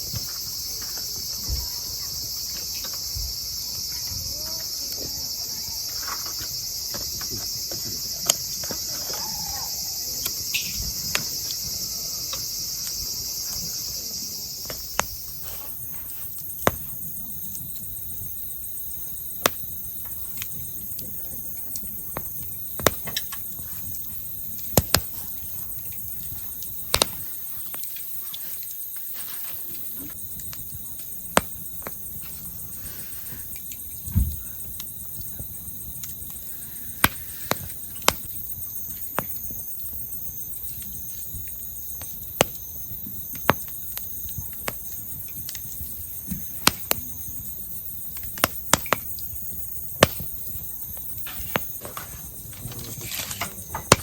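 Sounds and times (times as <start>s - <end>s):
campfire crackling and popping: 0.0s - 54.0s
crickets chirring: 0.0s - 54.0s.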